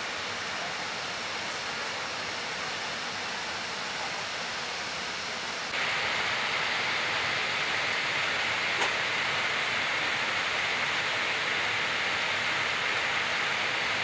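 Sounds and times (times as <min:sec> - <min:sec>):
air conditioning hiss: 0:00.0 - 0:14.0.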